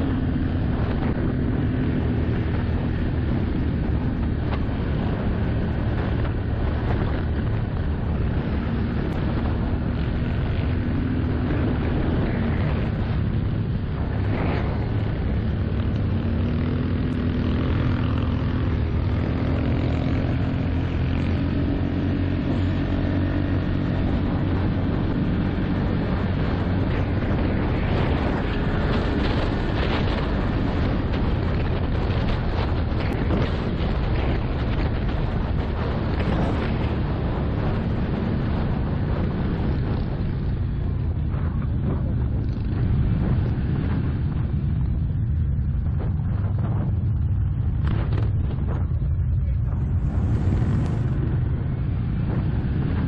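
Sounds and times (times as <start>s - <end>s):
atv engine running: 0.0s - 53.0s
wind on microphone: 0.0s - 53.0s.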